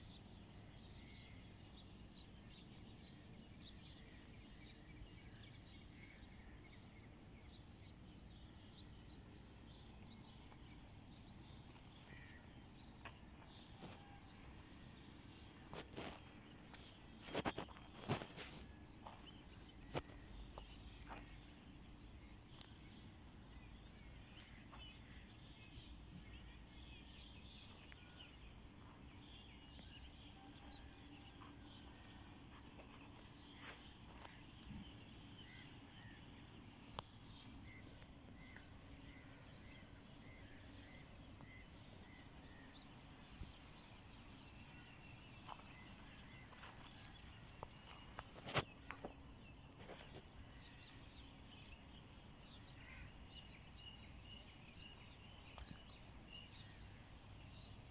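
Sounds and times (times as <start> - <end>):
distant birds chirping: 3.1 - 57.9.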